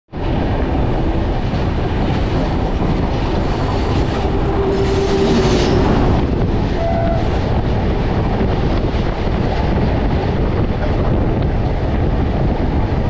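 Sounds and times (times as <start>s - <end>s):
oncoming train passing: 0.1s - 13.0s
rushing air: 0.1s - 13.0s
train wheels on rails: 0.2s - 13.0s.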